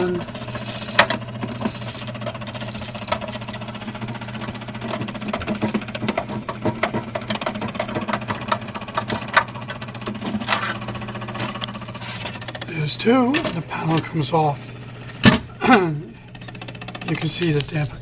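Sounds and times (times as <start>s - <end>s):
motor humming and rattling: 0.0s - 18.0s.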